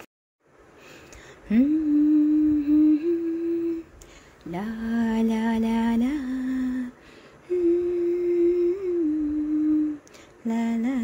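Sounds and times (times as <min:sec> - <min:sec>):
woman humming a slow tune: 0:01.5 - 0:11.0.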